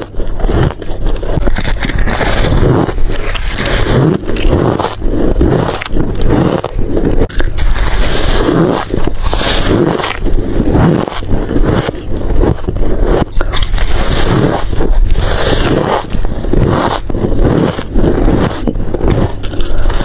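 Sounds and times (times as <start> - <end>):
chewing and crunching ice: 0.0 - 20.0.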